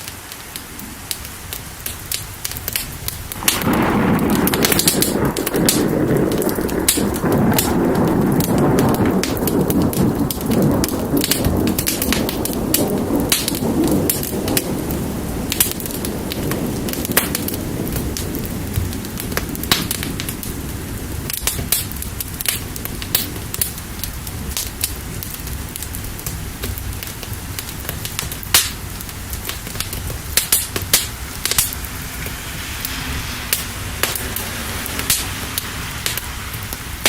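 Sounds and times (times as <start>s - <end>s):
steady rain: 0.0s - 37.0s
wood fire crackling: 0.0s - 37.0s
low thunder rumble: 0.6s - 37.0s.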